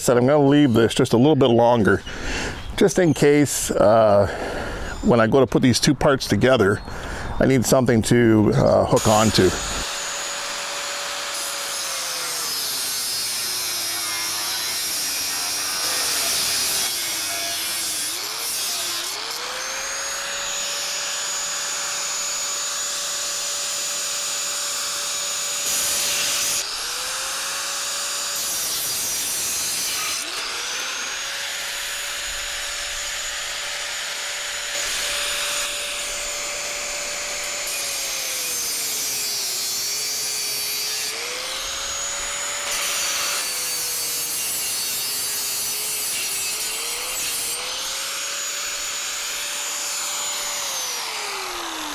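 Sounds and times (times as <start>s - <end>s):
angle grinder cutting steel: 8.6s - 51.9s.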